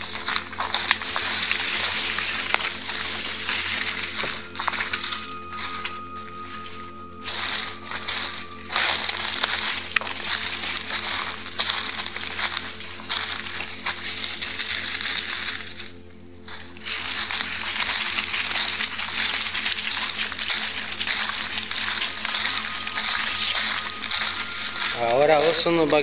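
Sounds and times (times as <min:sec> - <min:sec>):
footsteps crunching dry leaves: 0:00.0 - 0:26.0.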